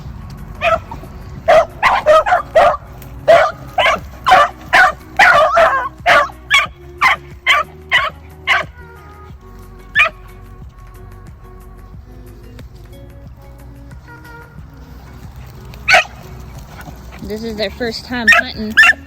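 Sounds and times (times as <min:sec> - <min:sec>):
beagles barking: 0:00.3 - 0:19.0.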